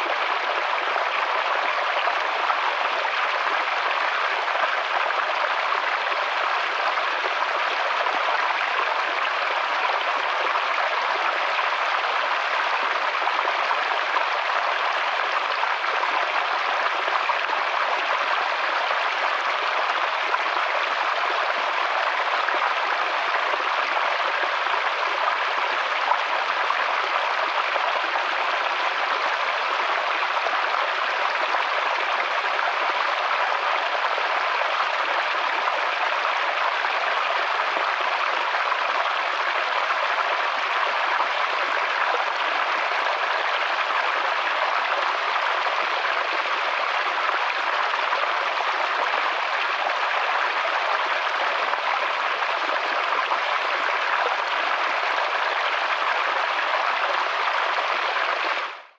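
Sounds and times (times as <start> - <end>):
stream splashing over rocks: 0.0 - 58.7.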